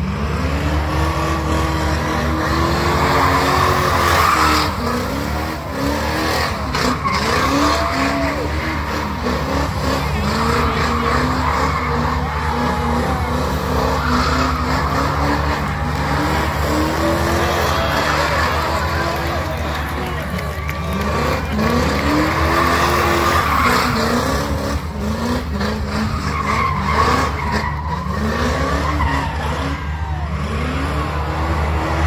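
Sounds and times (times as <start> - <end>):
car engine revving: 0.0 - 32.0
tyres screeching: 2.2 - 19.7, 20.6 - 30.9.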